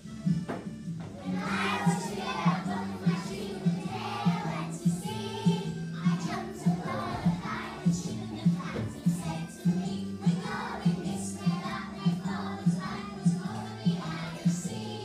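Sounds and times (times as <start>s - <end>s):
backing track with steady beat: 0.0s - 14.9s
children singing together: 1.2s - 15.0s.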